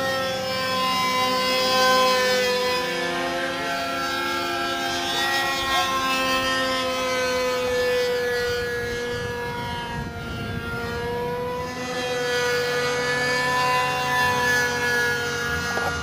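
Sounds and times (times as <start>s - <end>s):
model airplane engine buzzing: 0.0s - 16.0s.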